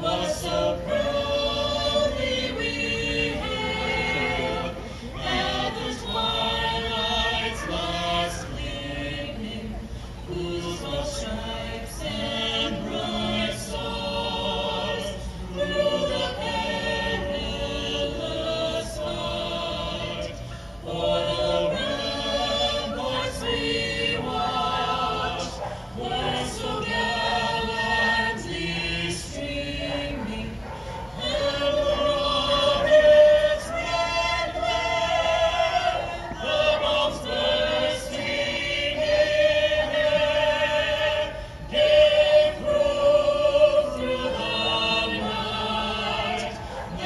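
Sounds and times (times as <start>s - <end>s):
choir singing over loudspeakers: 0.0s - 47.0s.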